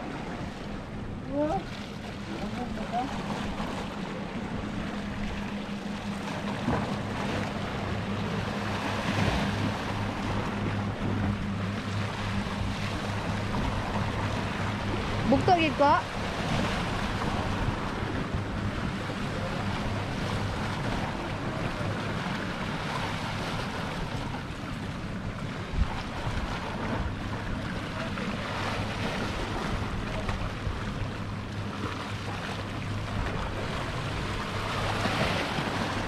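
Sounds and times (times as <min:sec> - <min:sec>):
sea waves washing against rocks: 0:00.0 - 0:36.0.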